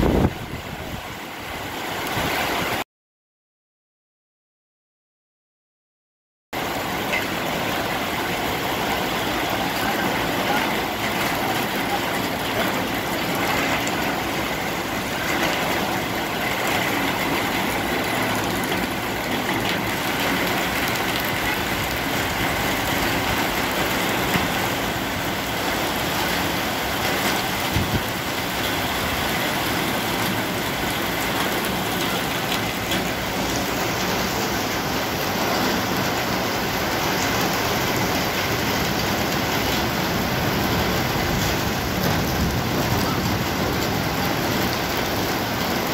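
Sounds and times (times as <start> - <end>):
heavy rain pouring: 0.0 - 2.8, 6.6 - 45.9.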